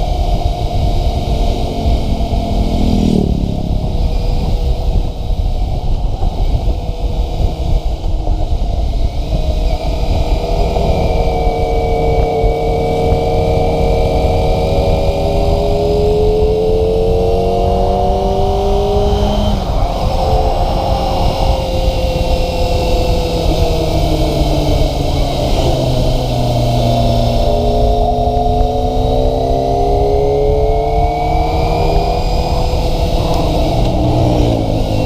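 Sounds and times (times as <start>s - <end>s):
low rumble of wind: 0.0s - 35.0s
motorcycle engine revving: 0.0s - 35.0s.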